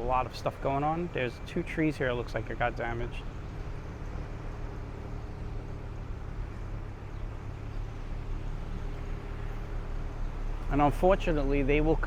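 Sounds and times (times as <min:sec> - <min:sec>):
distant engine rumbling: 0:00.0 - 0:12.0
street noise: 0:00.0 - 0:12.0.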